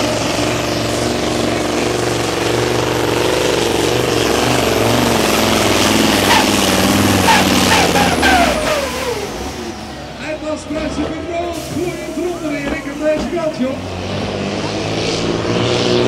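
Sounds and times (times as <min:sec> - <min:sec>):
diesel truck engine revving hard: 0:00.0 - 0:16.0.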